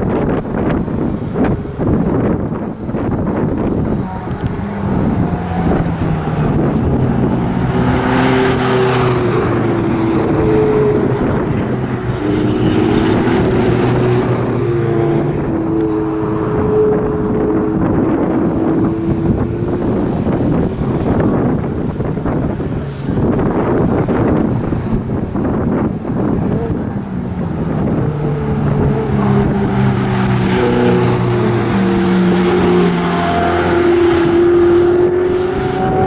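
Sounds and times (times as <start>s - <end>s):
wind buffeting microphone: 0.0s - 36.0s
sports car engine revving: 1.4s - 36.0s.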